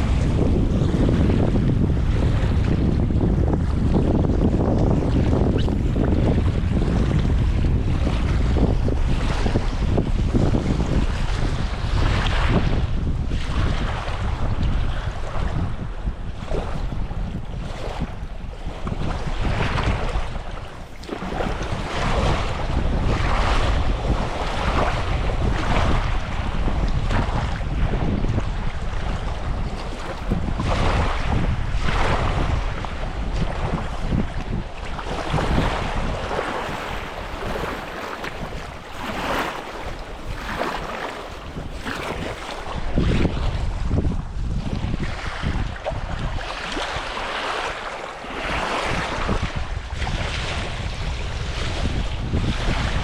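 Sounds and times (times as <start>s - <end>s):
sea waves: 0.0s - 53.0s
wind buffeting microphone: 0.0s - 53.0s.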